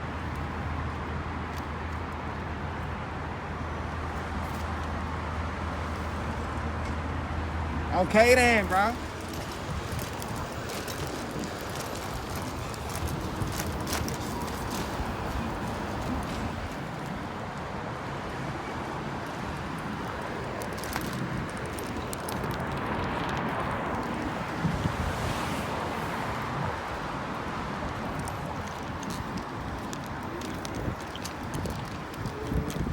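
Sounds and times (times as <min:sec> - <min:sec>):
electric scooter rumble and hiss: 0:00.0 - 0:32.9
wind and road noise: 0:00.0 - 0:32.9.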